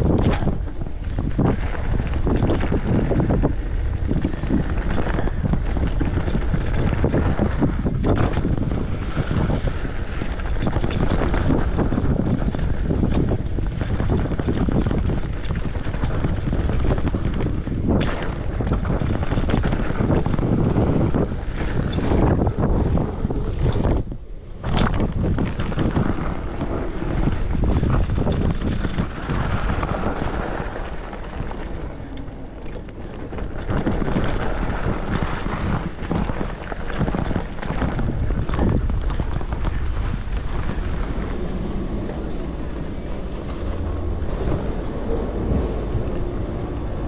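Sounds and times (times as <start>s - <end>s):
bike knocks and rattles: 0.0s - 45.2s
wind buffeting microphone: 0.0s - 47.0s.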